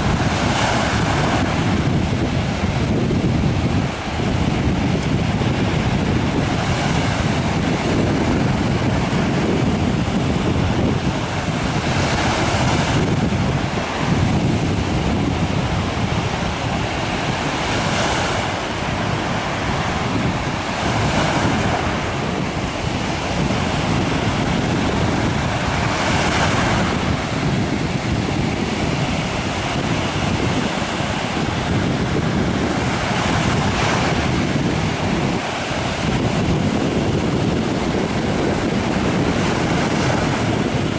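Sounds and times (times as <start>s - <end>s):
waves breaking on sand: 0.0s - 40.9s
wind buffeting microphone: 0.0s - 40.9s.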